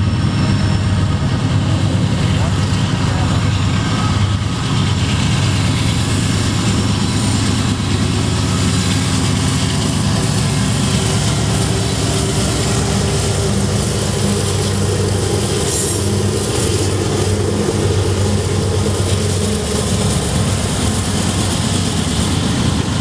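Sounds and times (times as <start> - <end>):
locomotive engines droning: 0.0 - 23.0
train wheels rumbling on rails: 0.0 - 23.0.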